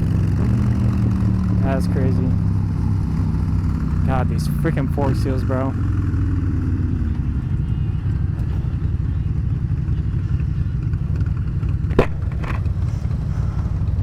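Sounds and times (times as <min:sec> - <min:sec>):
low riding rumble: 0:00.0 - 0:14.0
motorcycle engine running: 0:00.0 - 0:14.0.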